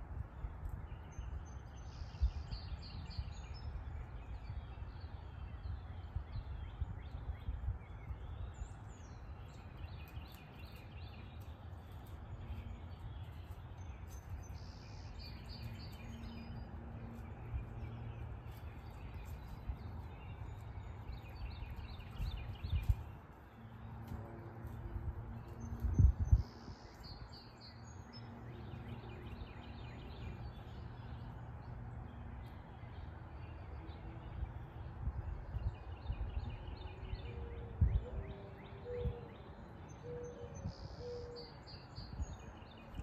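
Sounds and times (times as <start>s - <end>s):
steady low rumble: 0.0s - 37.2s
birds singing and chirping: 0.1s - 43.0s.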